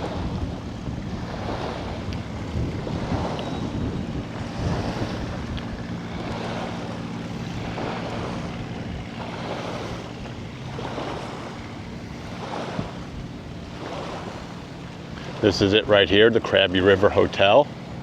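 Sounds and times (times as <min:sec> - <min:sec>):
motor engine humming: 0:00.0 - 0:18.0
wind buffeting microphone: 0:00.0 - 0:18.0.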